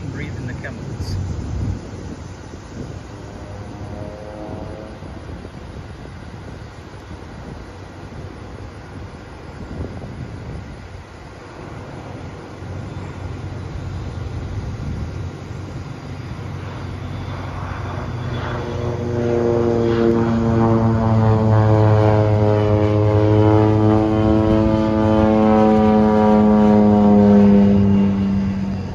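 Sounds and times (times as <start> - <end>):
propeller airplane passing overhead: 0.0 - 28.9.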